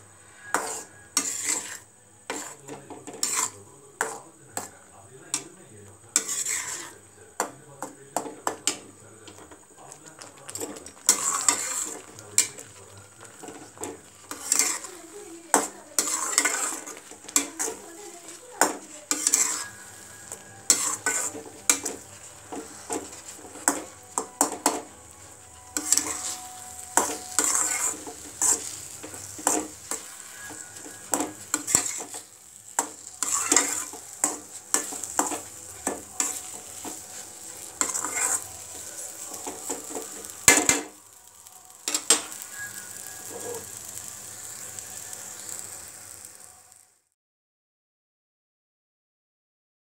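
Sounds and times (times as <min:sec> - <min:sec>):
metal ladle scraping a pan: 0:00.0 - 0:04.7, 0:06.1 - 0:41.1, 0:41.8 - 0:46.0
light sizzle from pan: 0:00.0 - 0:47.1.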